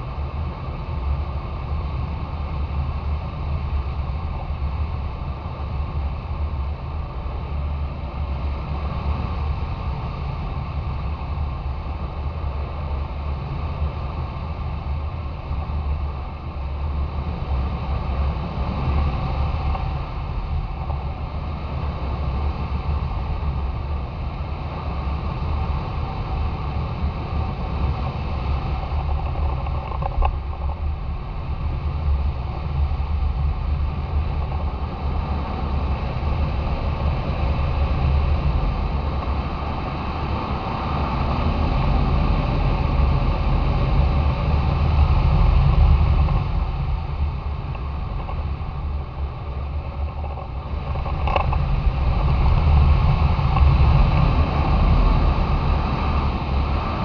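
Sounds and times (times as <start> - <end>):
wind rush and buffeting: 0.0 - 57.0.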